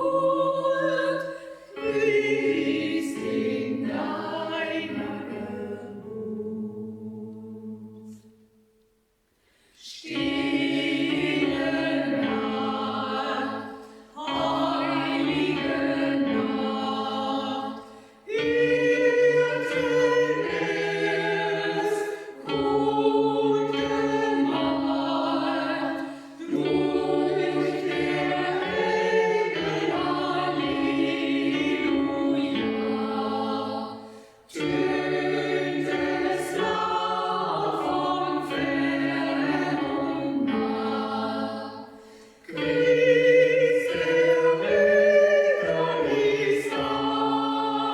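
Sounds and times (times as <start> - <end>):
choir singing: 0.0 - 8.8, 9.7 - 47.9.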